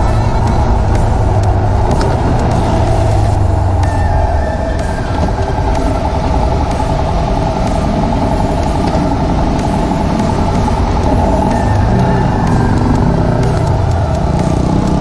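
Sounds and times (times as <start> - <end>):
city traffic: 0.0 - 15.0
motorcycle engine running: 0.0 - 15.0.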